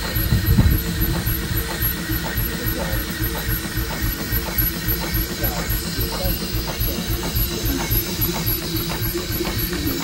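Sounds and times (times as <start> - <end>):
steam engine mechanical beat: 0.0 - 10.0.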